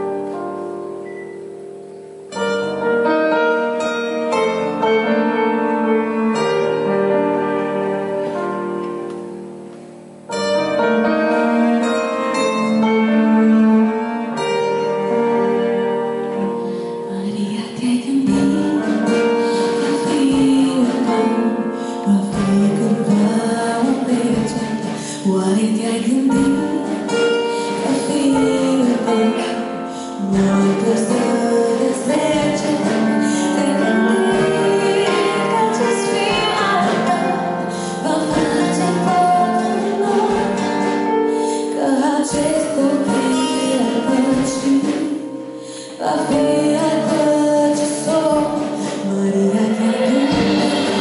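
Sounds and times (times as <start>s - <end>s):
band and strings accompanying: 0.0s - 51.0s.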